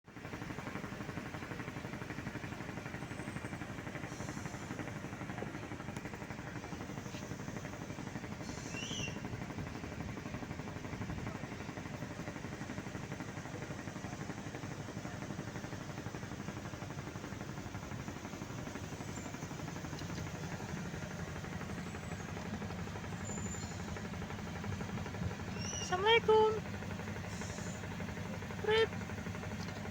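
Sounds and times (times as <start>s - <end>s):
low background rumble: 0.7s - 29.9s.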